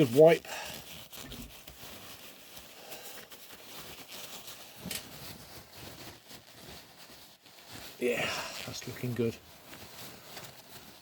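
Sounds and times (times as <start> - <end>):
cloth rubbing on metal: 0.0 - 11.0.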